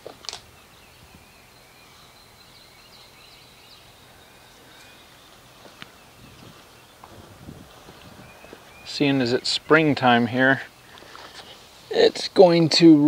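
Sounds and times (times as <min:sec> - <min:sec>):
distant birds chirping: 0:00.0 - 0:13.0
low hiss: 0:00.0 - 0:13.0.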